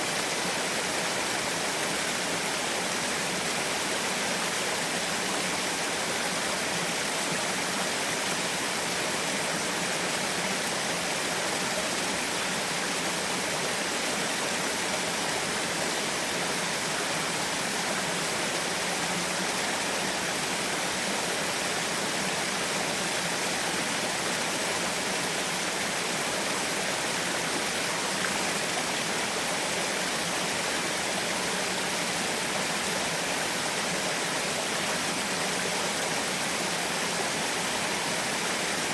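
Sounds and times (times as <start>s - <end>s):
small waterfall splashing: 0.0s - 38.9s.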